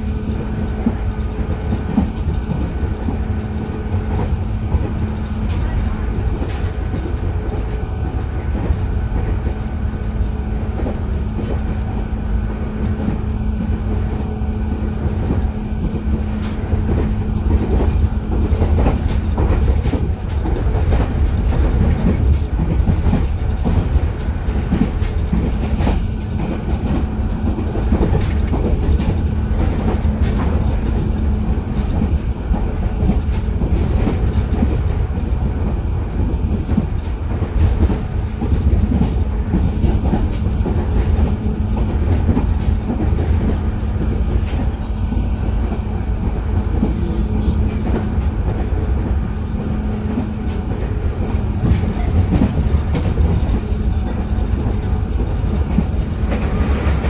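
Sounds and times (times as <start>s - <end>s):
electric train running rumble: 0.0s - 57.0s
wheels clicking over rail joints: 0.0s - 57.0s.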